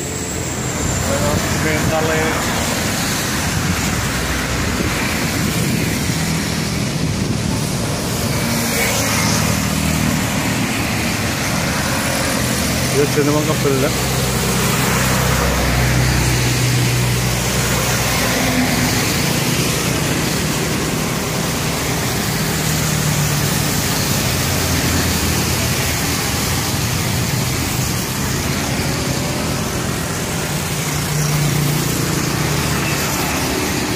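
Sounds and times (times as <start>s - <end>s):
heavy engine hum passing: 0.0s - 33.9s
traffic engine noise: 0.0s - 33.9s
tyres hissing on wet road: 0.0s - 33.9s.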